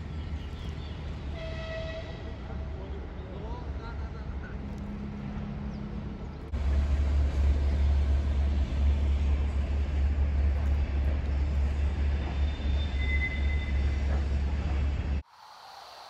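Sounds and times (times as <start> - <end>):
electric train rumbling past: 0.0 - 16.0.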